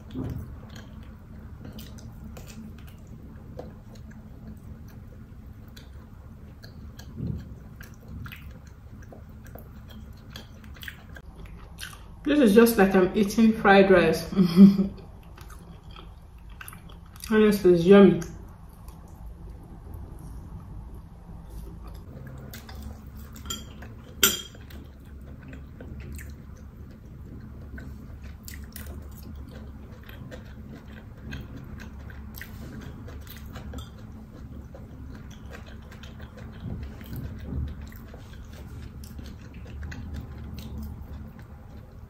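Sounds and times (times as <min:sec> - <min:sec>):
chewing and biting food: 0:00.0 - 0:12.2, 0:15.1 - 0:17.3, 0:21.4 - 0:42.0.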